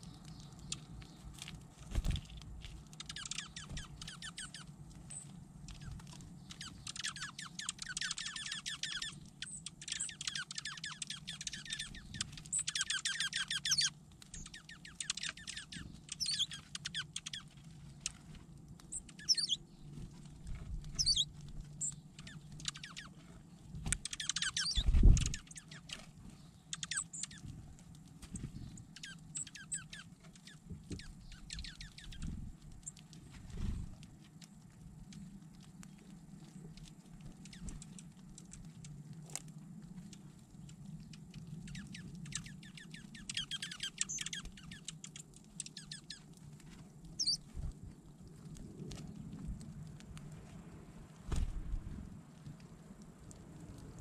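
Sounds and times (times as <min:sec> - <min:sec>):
songbirds twittering: 0:00.0 - 0:54.0.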